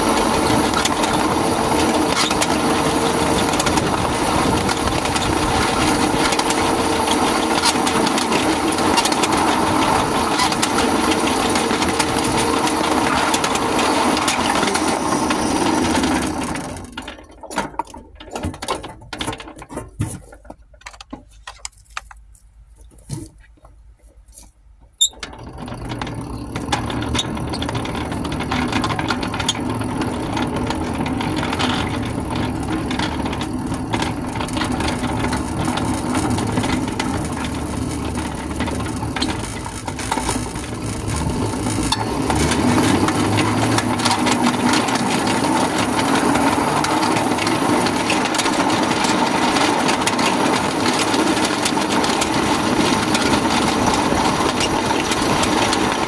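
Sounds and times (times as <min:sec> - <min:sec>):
miniature train running on track: 0:00.0 - 0:21.1, 0:25.0 - 0:56.0
wheel clicks over rail joints: 0:00.0 - 0:56.0.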